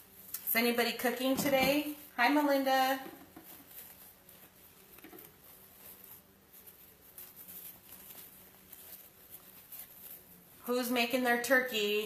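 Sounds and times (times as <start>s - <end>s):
ribbon rustling and ticking: 0.2s - 11.1s.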